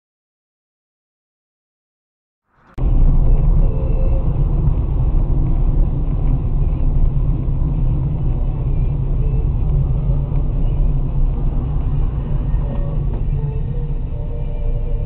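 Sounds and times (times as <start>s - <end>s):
car cabin road rumble: 2.6s - 15.0s.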